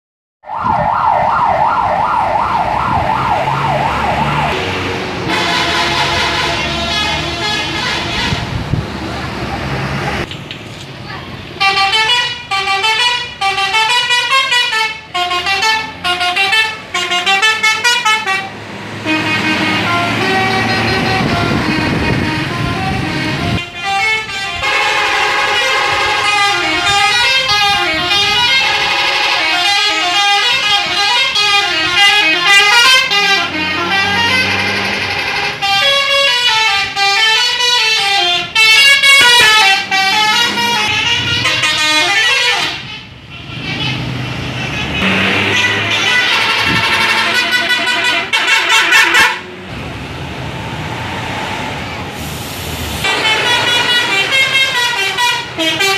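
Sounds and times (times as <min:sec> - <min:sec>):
bus engine passing: 0:00.5 - 0:55.9
musical bus horns: 0:02.7 - 0:08.8, 0:11.6 - 0:49.7, 0:52.2 - 0:55.9.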